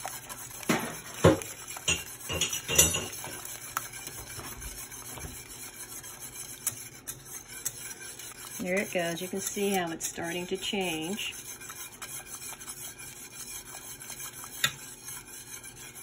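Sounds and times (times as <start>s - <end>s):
whisk scraping metal saucepan: 0.0s - 16.0s.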